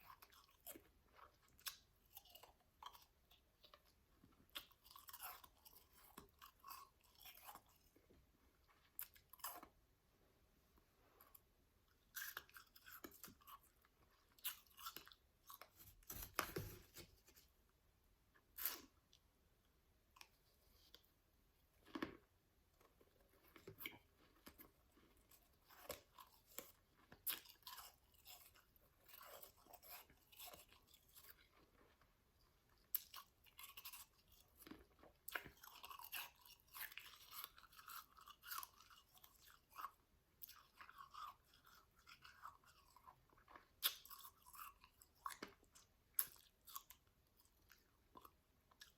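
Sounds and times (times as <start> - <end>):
ice being chewed: 0.0 - 9.8, 11.1 - 17.0, 21.8 - 48.9.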